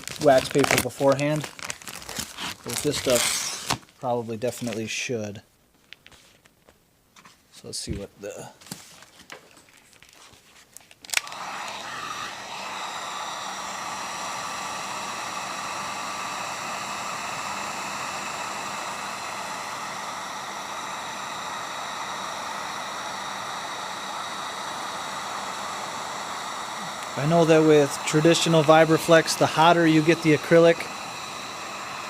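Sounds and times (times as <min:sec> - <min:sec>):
heat gun air rush and fan whine: 0:00.0 - 0:05.2, 0:11.1 - 0:32.0.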